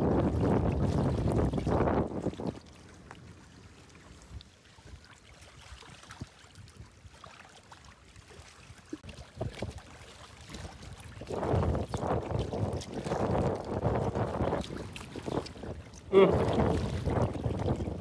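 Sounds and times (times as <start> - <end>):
small waves lapping on rocks: 0.0 - 18.0.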